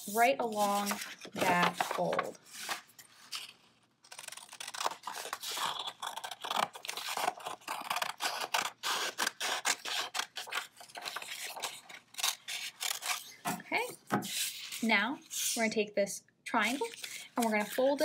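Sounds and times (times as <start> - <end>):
scissors snipping paper: 0.4 - 15.6.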